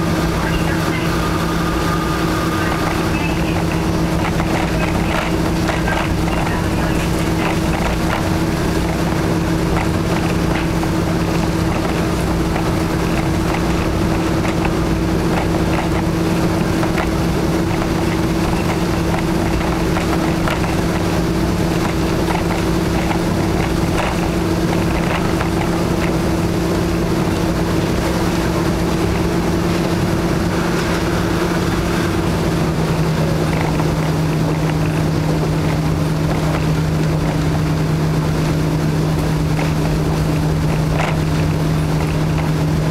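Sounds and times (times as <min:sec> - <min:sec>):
diesel engines droning: 0:00.0 - 0:42.9
train wheels rumbling on rail: 0:00.0 - 0:42.9.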